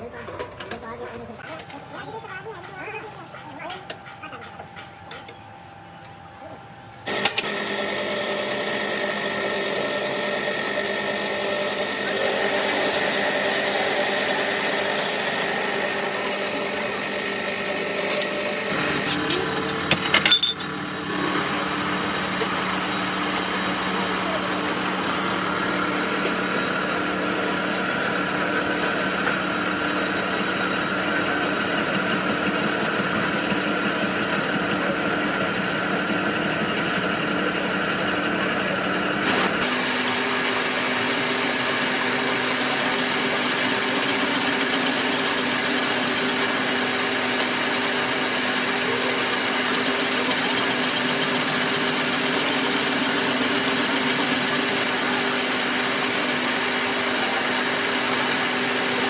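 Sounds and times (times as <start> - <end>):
machine motor humming: 7.0 - 59.0.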